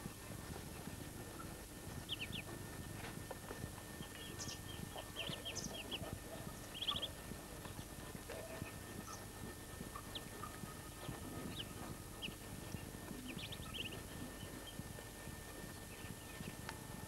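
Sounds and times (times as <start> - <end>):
ducklings peeping: 0.1 - 17.0.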